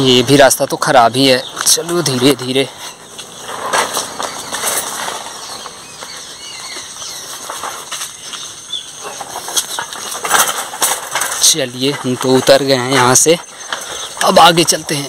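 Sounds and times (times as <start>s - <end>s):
bicycle rattling on rough path: 0.0s - 15.0s
wheels knocking on stones: 0.8s - 15.0s.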